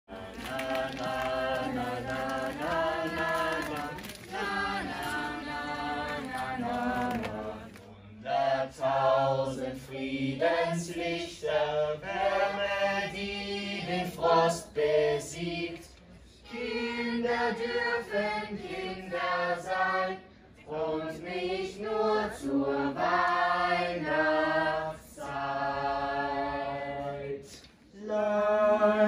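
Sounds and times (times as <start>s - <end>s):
group of voices singing: 0.1s - 29.0s.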